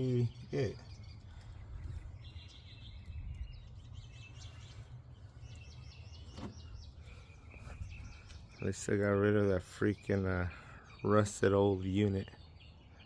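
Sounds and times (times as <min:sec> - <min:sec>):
steady low rumble: 0:00.0 - 0:10.6
small birds chirping: 0:00.0 - 0:13.0.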